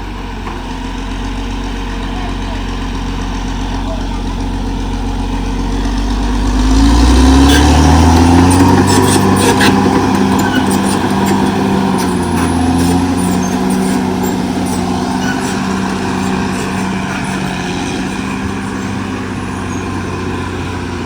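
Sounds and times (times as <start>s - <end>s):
bulldozer diesel engine revving: 0.0s - 21.0s.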